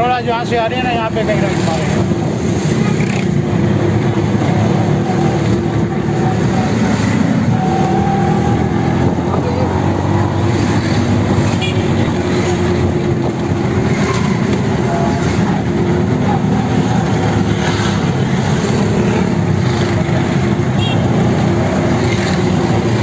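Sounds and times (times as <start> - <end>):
auto-rickshaw engine running: 0.0 - 23.0
road traffic noise: 0.0 - 23.0.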